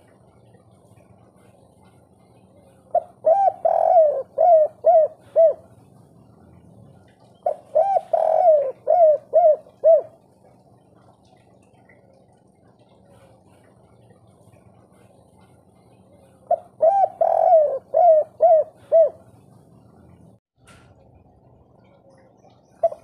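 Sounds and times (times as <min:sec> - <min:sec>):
dove cooing: 0:00.0 - 0:13.6, 0:14.5 - 0:20.2, 0:22.8 - 0:23.0.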